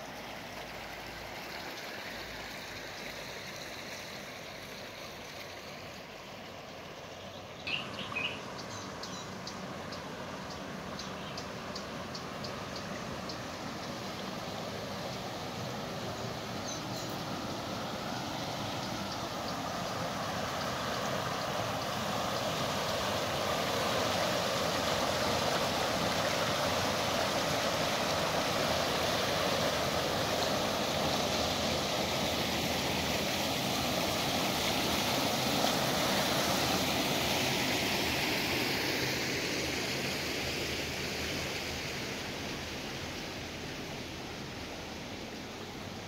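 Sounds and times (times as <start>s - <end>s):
water rushing along a channel: 0.0s - 46.0s.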